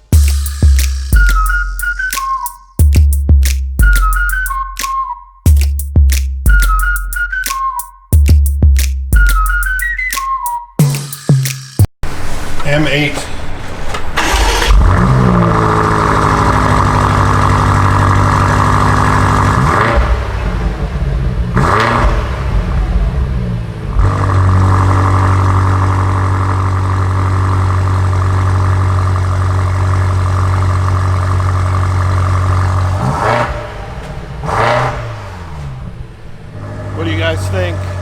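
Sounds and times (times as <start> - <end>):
car engine idling and revving: 0.0 - 4.7, 12.1 - 38.0.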